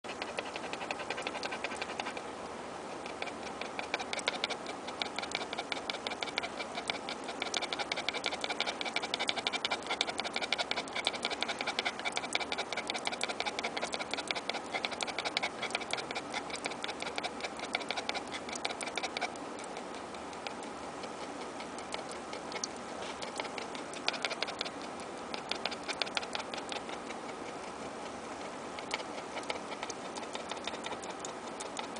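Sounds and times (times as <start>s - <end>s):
small dog making clicking noises: 0.0s - 31.9s.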